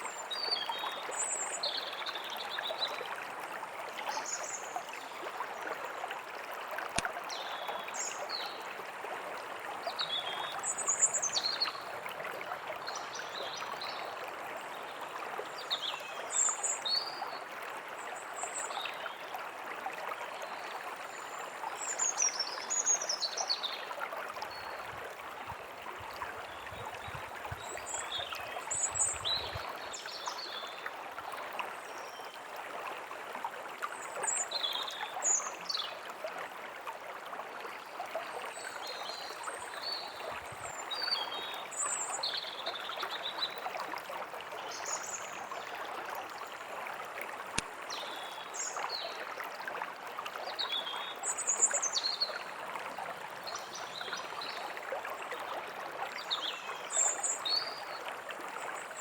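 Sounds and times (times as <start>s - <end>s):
small stream running: 0.0s - 59.0s.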